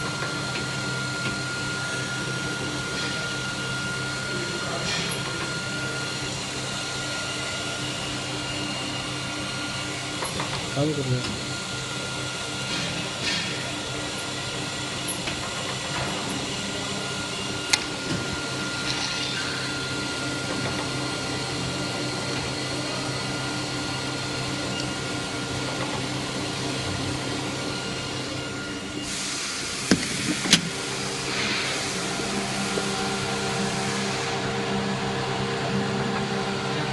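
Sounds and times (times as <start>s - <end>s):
bottling machine humming: 0.0s - 36.9s.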